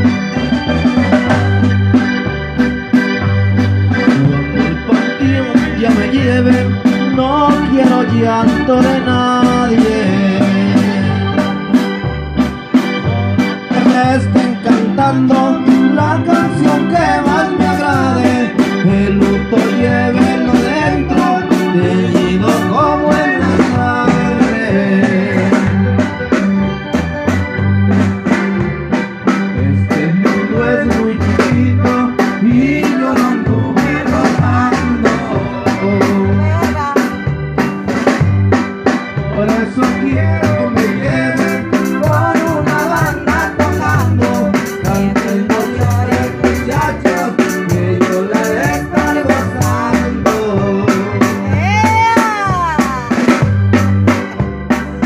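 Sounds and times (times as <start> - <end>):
drum kit: 0.0 - 55.0
electronic keyboard: 0.0 - 55.0.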